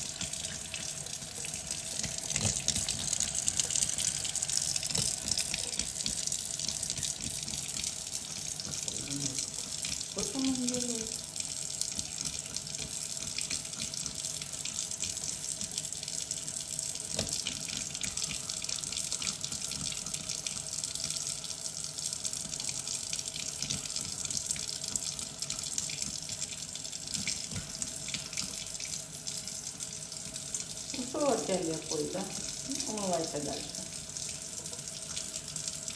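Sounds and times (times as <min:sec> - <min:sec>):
tap running water into sink: 0:00.0 - 0:35.9.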